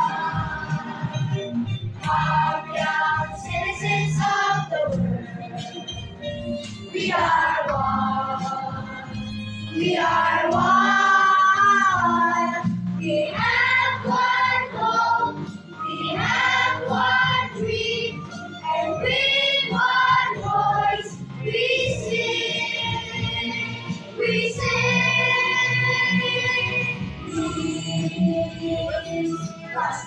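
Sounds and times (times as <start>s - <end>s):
children's choir singing: 0.0s - 6.2s, 6.8s - 30.0s
musical accompaniment: 0.0s - 30.0s.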